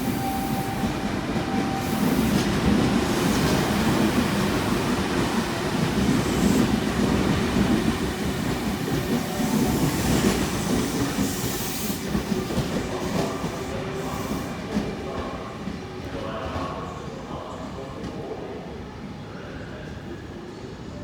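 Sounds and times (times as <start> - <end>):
train wheels rumbling on rail: 0.0 - 18.5.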